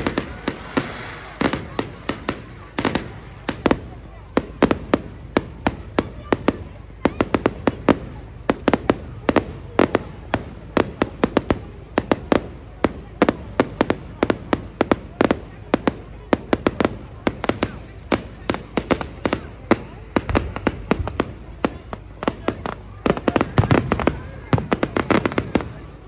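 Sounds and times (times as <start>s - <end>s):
fireworks bangs and cracks: 0.0s - 26.0s.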